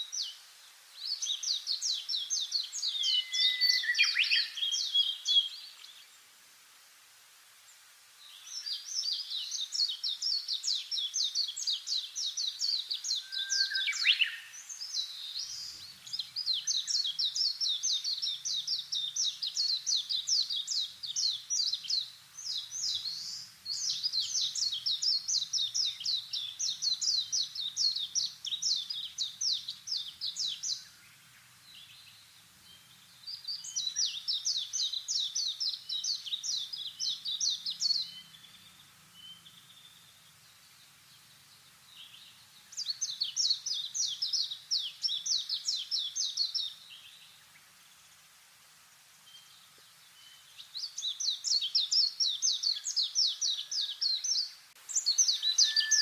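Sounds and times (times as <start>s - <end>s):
birds chirping: 8.3s - 48.0s, 49.2s - 56.0s.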